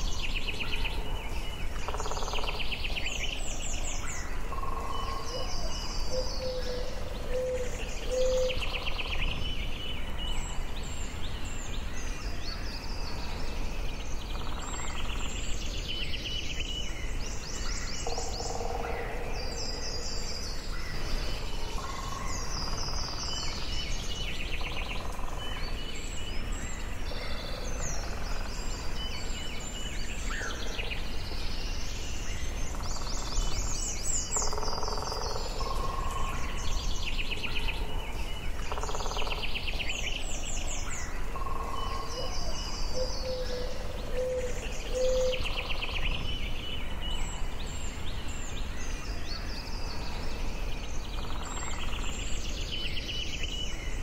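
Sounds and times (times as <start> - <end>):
birds singing: 0.0 - 54.0
low background hiss: 0.0 - 54.0.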